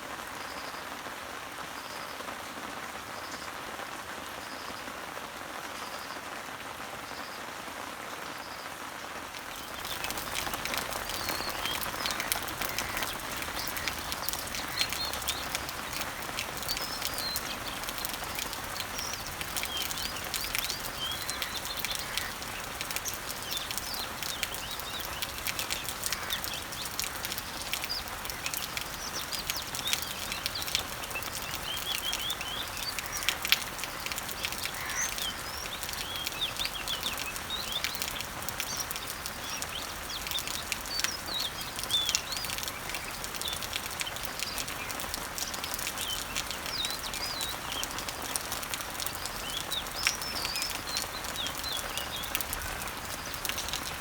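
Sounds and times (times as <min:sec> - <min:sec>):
rain on leaves: 0:00.0 - 0:54.0
birds chirping: 0:09.3 - 0:54.0.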